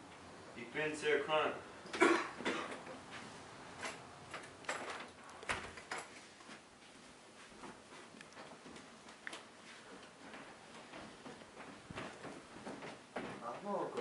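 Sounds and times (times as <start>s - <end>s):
quiet footsteps: 2.0s - 14.0s.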